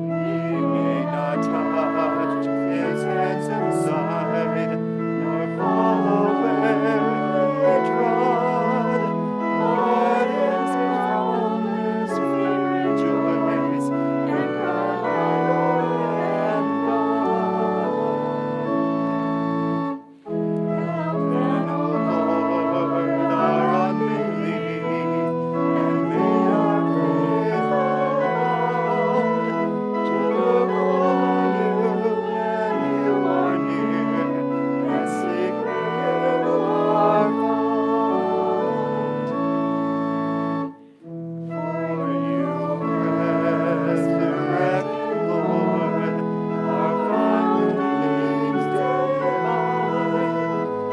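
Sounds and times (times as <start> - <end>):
church organ playing chords: 0.0 - 50.9.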